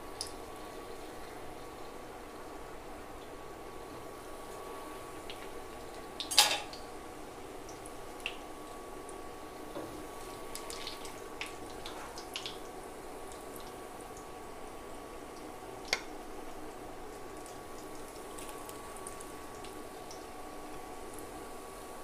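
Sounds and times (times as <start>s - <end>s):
chillies deep-frying in oil: 0.0s - 22.0s.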